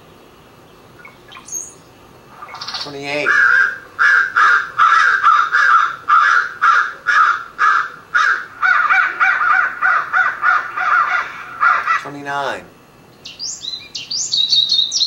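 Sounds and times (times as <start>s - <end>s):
bird harsh calls: 1.0s - 12.2s, 13.2s - 15.0s.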